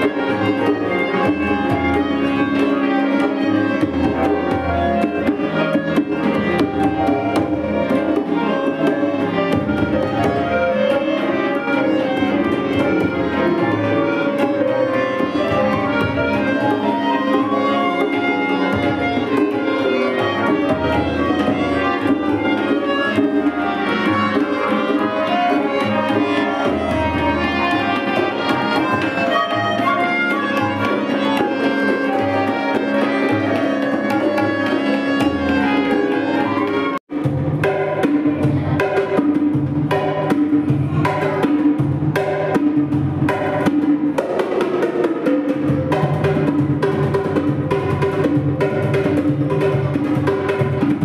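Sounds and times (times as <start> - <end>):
harmonium melody: 0.0 - 44.0
congas played in quick rhythm: 0.0 - 51.0
tabla: 0.0 - 51.0.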